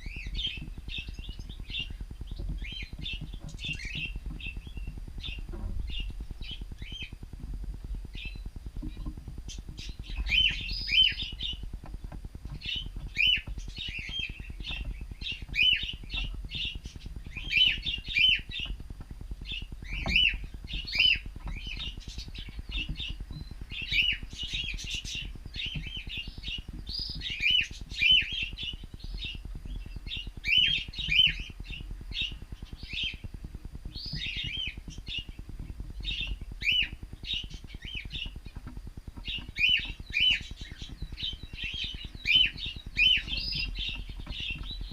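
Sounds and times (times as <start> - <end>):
cockatiels chirping: 0.0 - 44.9.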